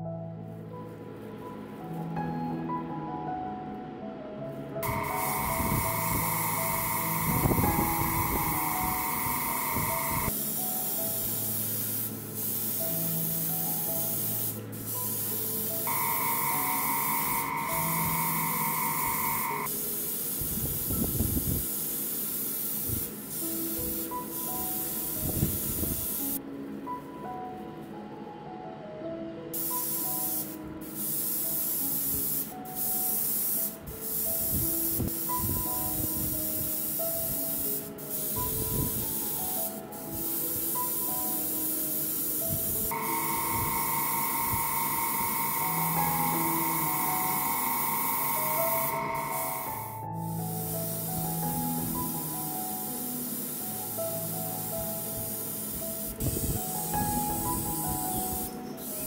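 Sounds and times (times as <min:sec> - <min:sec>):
airbrush hissing: 0:04.8 - 0:26.4, 0:29.6 - 0:59.0.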